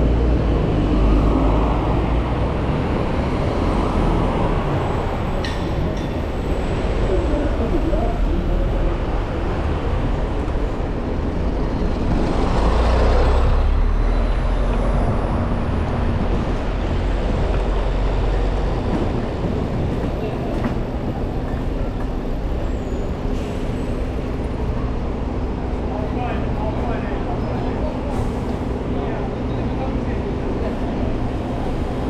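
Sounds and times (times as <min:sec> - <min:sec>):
heavy vehicle engines: 0:00.0 - 0:32.0
low traffic rumble: 0:00.0 - 0:32.0.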